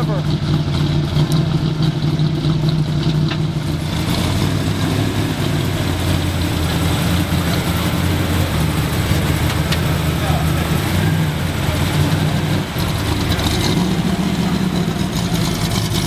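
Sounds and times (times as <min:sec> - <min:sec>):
car engine deep exhaust note: 0:00.0 - 0:16.0.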